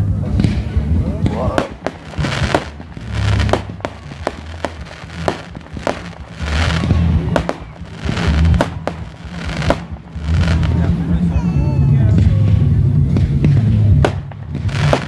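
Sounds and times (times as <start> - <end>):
fireworks crackling bursts: 0.0 - 15.0
music: 0.0 - 15.0
fireworks bangs: 0.2 - 11.4, 12.2 - 15.0.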